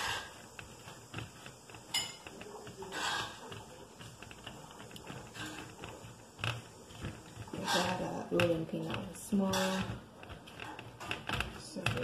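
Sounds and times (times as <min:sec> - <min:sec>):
hands pressing dough clicks: 0:00.0 - 0:12.0.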